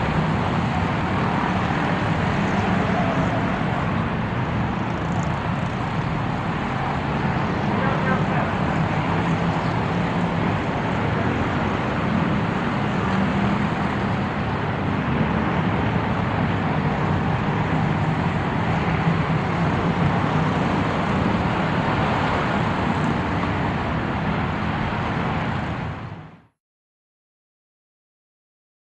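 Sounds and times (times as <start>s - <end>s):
motor vehicle noise: 0.0s - 26.6s.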